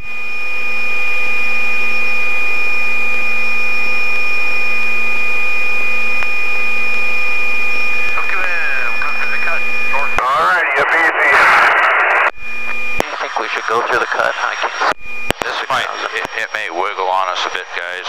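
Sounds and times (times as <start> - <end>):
helicopter cockpit drone: 0.0 - 18.0
high steady whine: 0.0 - 18.0.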